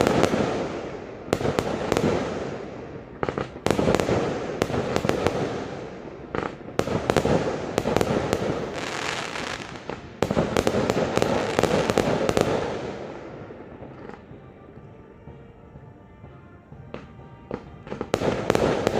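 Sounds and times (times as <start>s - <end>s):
fireworks bangs: 0.0s - 18.9s
fireworks crackling: 0.0s - 18.9s.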